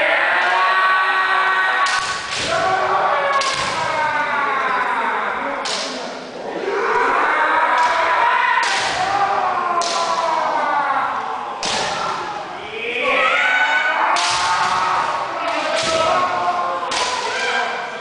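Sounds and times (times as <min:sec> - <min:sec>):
voices: 0:00.0 - 0:18.0.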